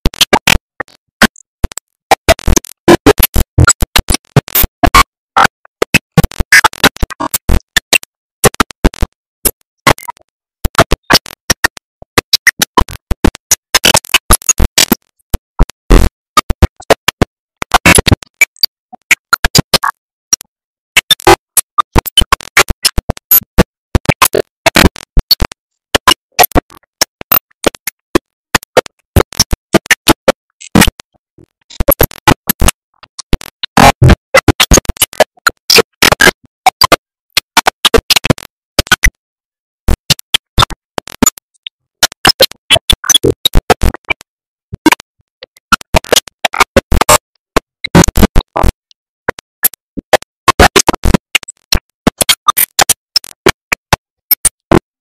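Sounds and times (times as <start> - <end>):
scratchy electronic music crackle: 0.1 - 39.2, 39.9 - 44.2, 44.8 - 54.8.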